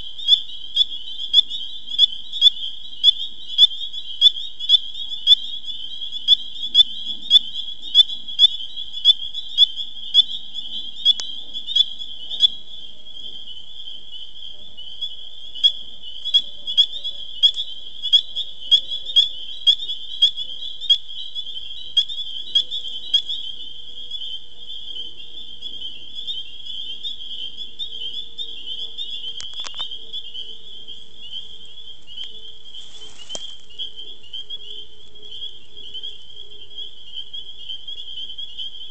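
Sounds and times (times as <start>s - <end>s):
frog giving sharp calls: 0.0s - 38.8s
frogs trilling chorus: 0.0s - 38.9s.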